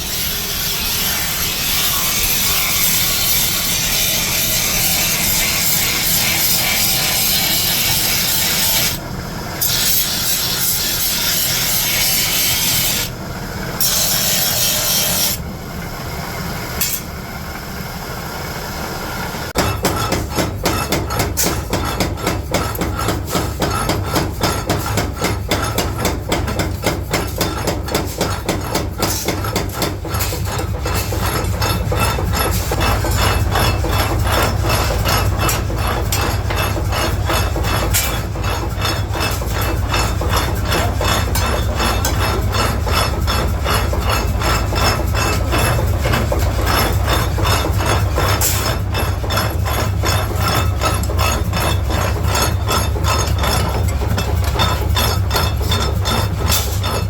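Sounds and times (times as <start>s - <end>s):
rasping on steel: 0.0s - 9.0s, 9.6s - 13.1s, 13.8s - 15.4s, 19.6s - 57.0s.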